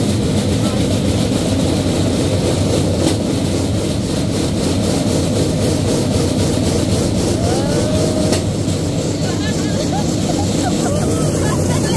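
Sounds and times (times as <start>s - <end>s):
steel wheels rumbling on rails: 0.0s - 11.9s.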